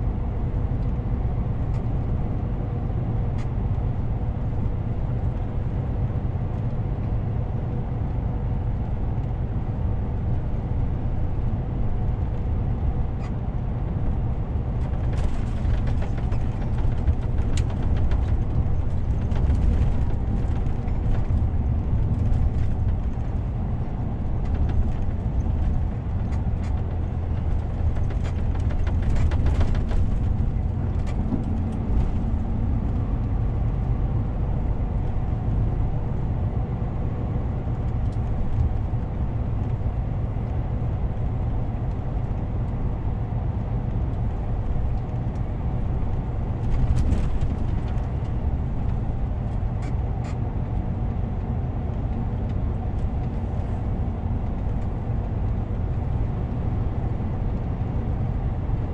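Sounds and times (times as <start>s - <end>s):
road noise: 0.0s - 58.9s
truck diesel engine rumbling: 0.0s - 58.9s.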